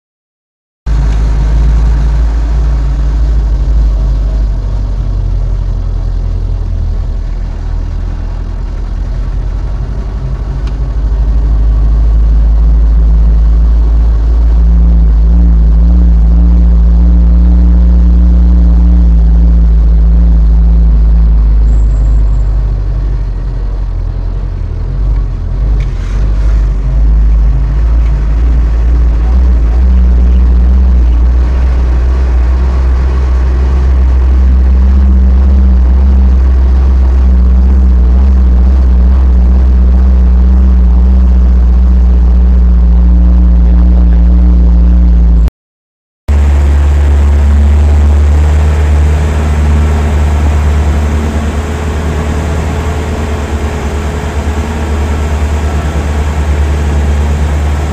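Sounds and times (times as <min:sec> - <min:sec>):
vehicle engine and road rumble: 0:00.9 - 0:45.5, 0:46.3 - 0:57.9.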